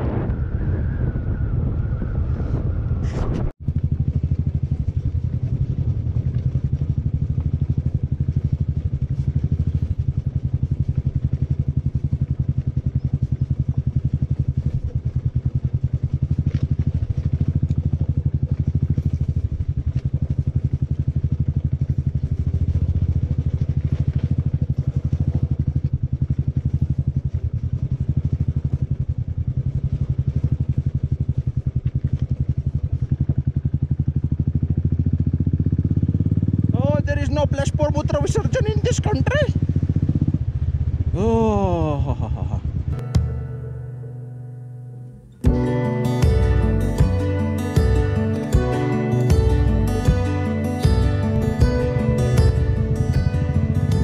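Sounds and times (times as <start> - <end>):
motorcycle engine running: 2.7 - 54.0.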